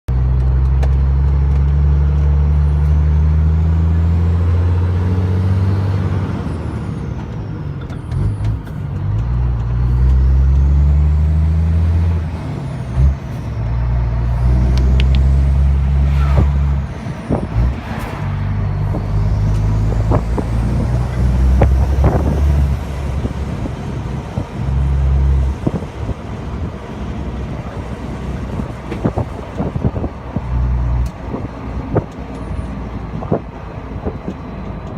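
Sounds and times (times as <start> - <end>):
diesel truck engine pulling: 0.1 - 34.9.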